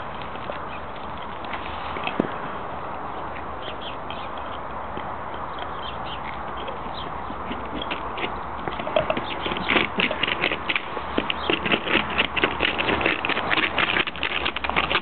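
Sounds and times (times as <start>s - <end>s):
dog crunching ice: 0.0s - 15.0s.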